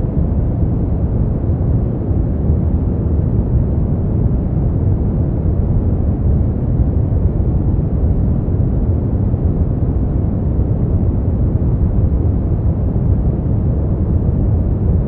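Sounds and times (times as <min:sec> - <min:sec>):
deep rumbling brown noise: 0:00.0 - 0:15.0.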